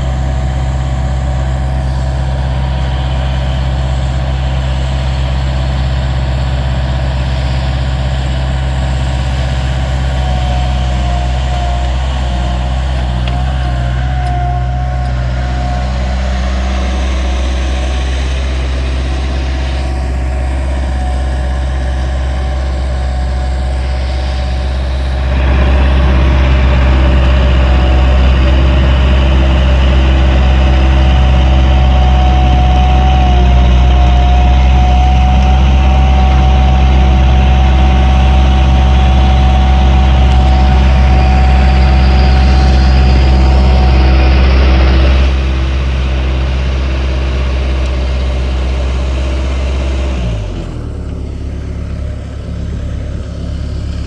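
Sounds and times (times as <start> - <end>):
diesel loader engine drone: 0.0 - 54.0
high whine: 0.0 - 54.0.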